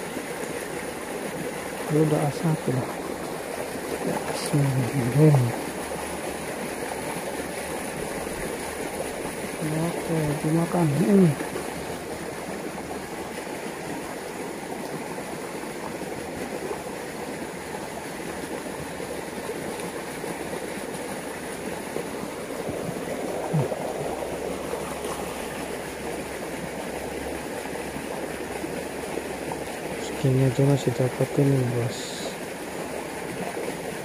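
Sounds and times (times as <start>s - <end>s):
water flowing fast in a channel: 0.0s - 34.0s.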